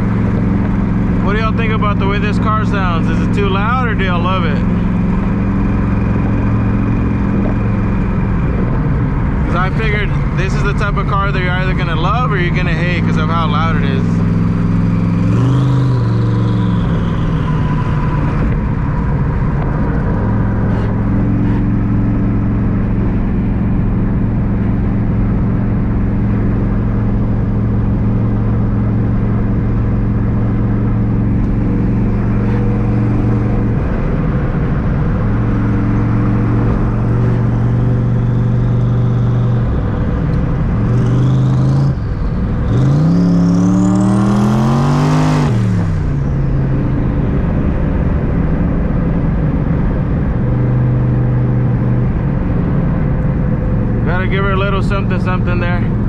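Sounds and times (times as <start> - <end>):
car engine running loud: 0.0 - 56.0.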